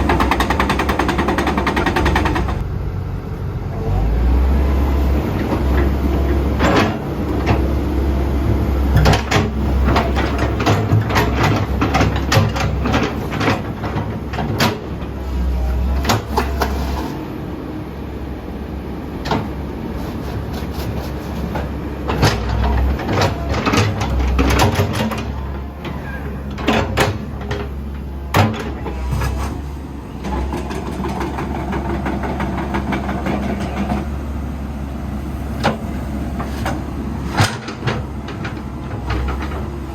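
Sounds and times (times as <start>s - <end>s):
excavator engine droning: 0.0s - 39.9s.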